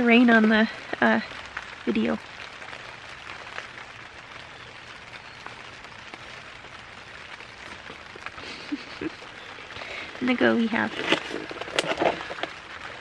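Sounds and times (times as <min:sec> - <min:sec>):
rain on a tent: 0:00.0 - 0:13.0.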